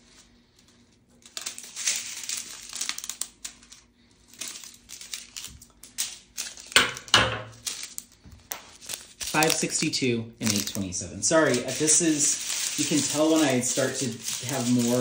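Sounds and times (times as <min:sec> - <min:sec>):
small plastic bags crinkling: 0:00.0 - 0:15.0.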